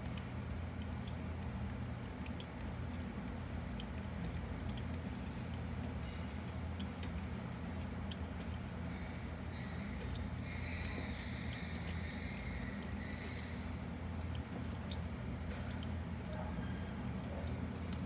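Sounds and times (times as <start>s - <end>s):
crab clicking and crunching: 0.0s - 18.0s
steady low hum: 0.0s - 18.0s.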